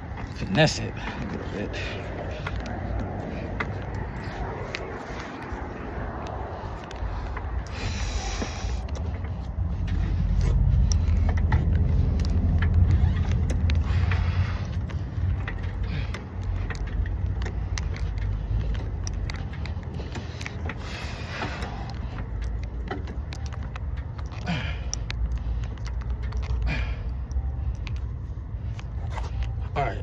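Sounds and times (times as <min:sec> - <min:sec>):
low rumble: 0:00.0 - 0:29.4.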